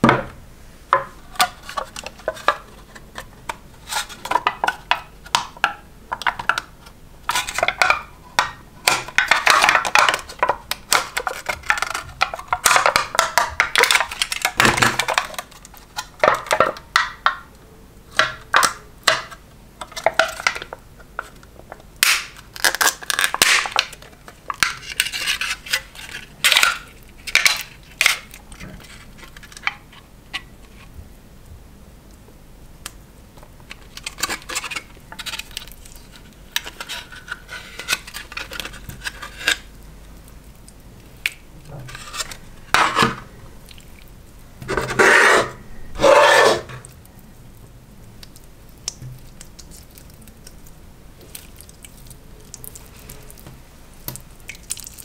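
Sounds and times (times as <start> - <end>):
plastic crinkling and crackling: 1.0 - 17.5, 18.1 - 31.0, 33.4 - 45.0, 46.6 - 55.0.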